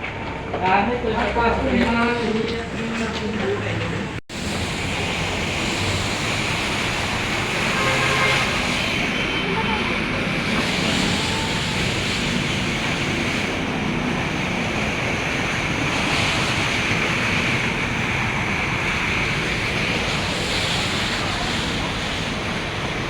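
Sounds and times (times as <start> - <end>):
steady rushing noise with hiss: 2.0 - 23.0.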